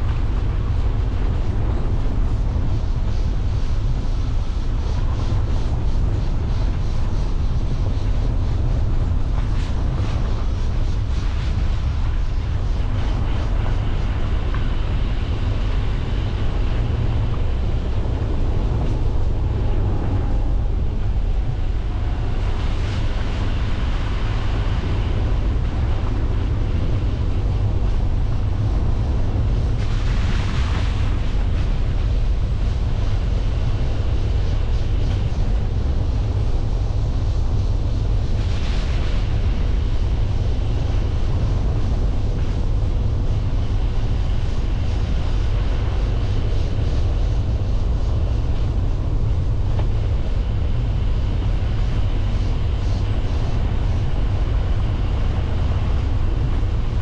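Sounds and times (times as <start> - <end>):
car road and wind rumble: 0.0 - 57.0.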